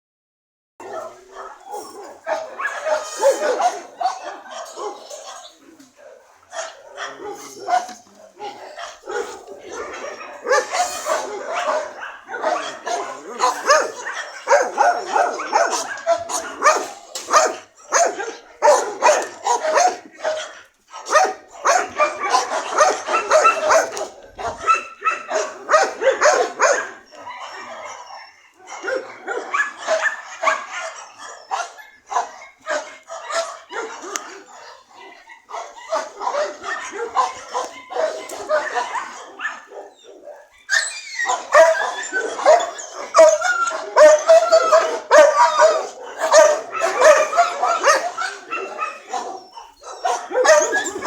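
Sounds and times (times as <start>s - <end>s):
dog barking and yipping: 0.8s - 51.0s.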